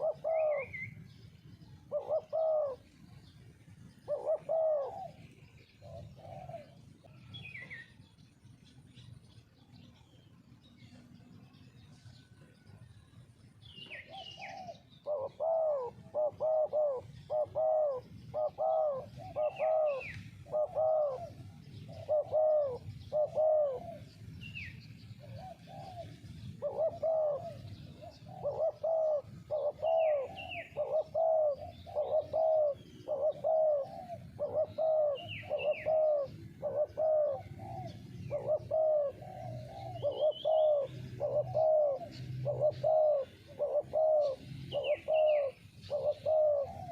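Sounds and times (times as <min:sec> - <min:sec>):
dove cooing: 0:00.0 - 0:09.9, 0:13.6 - 0:46.9
small birds chirping: 0:00.0 - 0:46.9.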